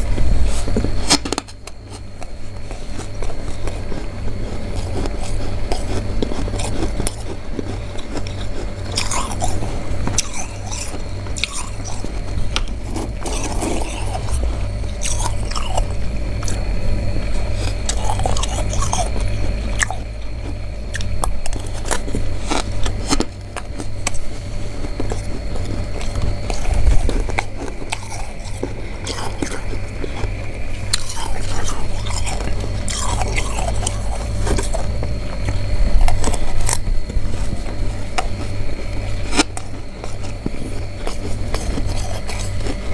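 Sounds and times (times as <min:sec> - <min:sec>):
steady low hum: 0:00.0 - 0:42.9
crunching frost in mouth: 0:00.5 - 0:42.9.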